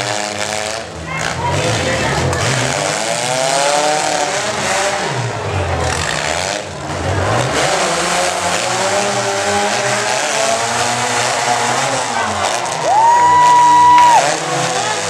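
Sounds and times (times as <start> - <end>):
pickup truck engine revving high: 0.0 - 15.0.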